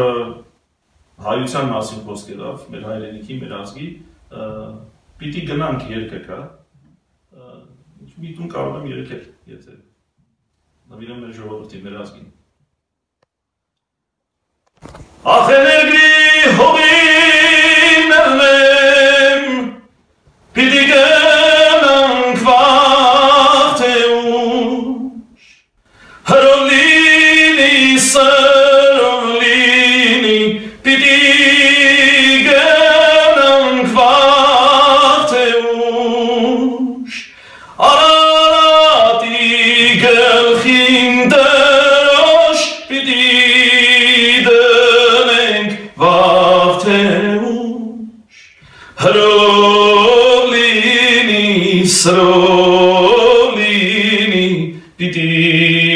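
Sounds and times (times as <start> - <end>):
man singing a cappella: 0.0 - 0.5, 1.2 - 6.2, 15.2 - 55.9.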